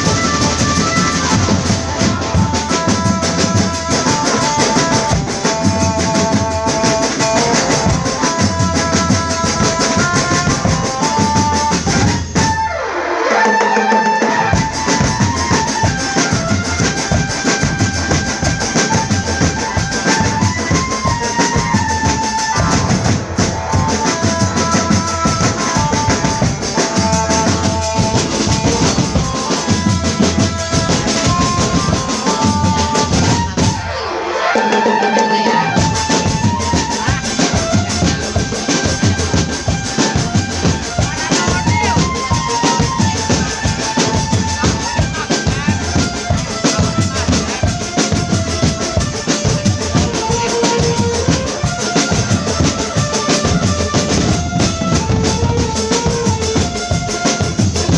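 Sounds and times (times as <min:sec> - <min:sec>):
marching drum band playing: 0:00.0 - 0:57.9.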